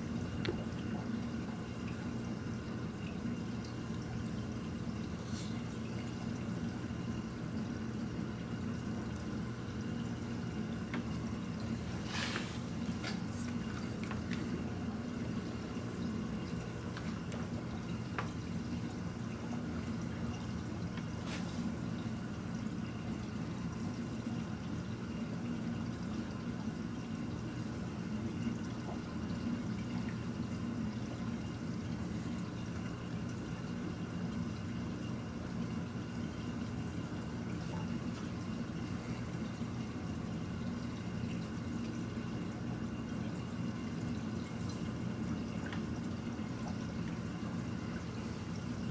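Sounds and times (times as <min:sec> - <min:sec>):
low pump hum: 0:00.0 - 0:48.9
water trickling and dripping: 0:00.0 - 0:48.9.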